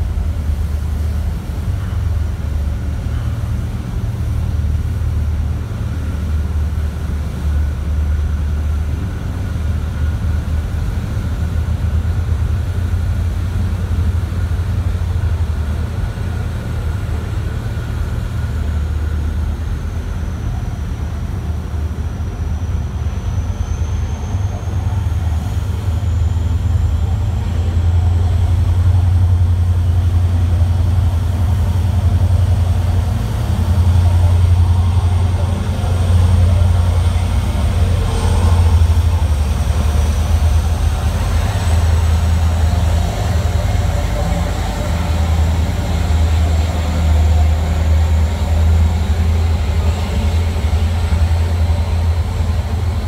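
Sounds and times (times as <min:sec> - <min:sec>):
ferry engines droning: 0:00.0 - 0:53.0.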